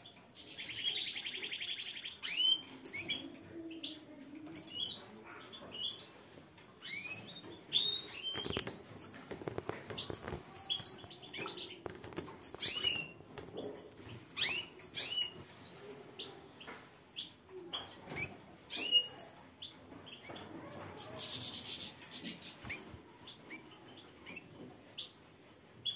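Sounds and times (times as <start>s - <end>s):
canaries chirping and singing: 0.0s - 25.9s.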